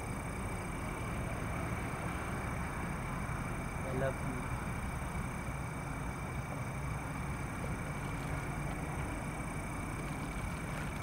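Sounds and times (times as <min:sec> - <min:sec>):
faint high-pitched whine: 0:00.0 - 0:11.0
low background rumble: 0:00.0 - 0:11.0.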